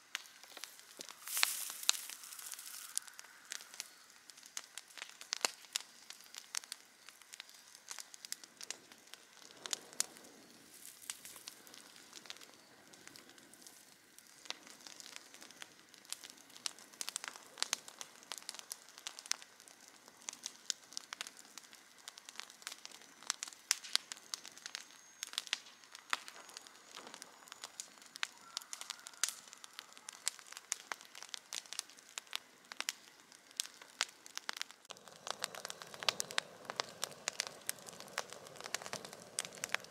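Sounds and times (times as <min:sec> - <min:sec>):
campfire crackling and popping: 0:00.0 - 0:39.9
faint steady hiss: 0:00.0 - 0:39.9.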